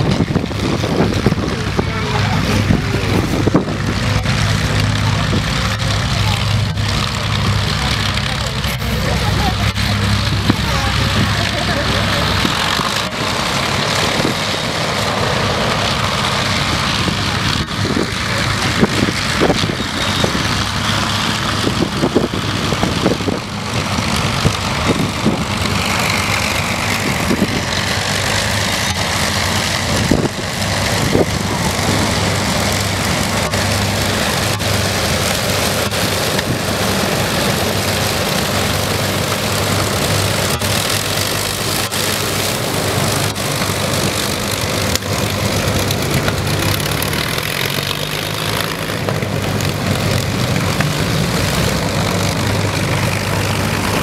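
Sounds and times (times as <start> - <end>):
aircraft engines droning: 0.0 - 54.0.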